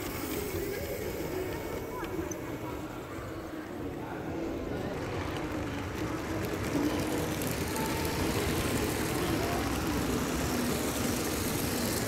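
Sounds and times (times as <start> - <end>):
crowd chatter in large hall: 0.0 - 12.0
toy trains rolling and humming: 0.0 - 12.0.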